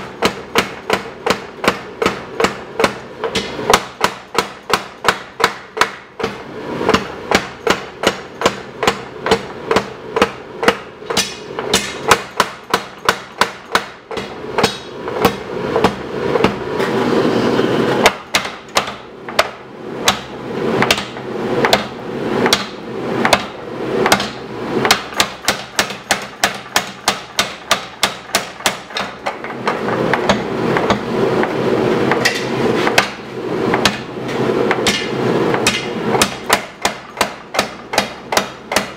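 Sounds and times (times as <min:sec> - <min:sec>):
power hammer striking hot steel: 0:00.0 - 0:17.1, 0:17.9 - 0:38.9.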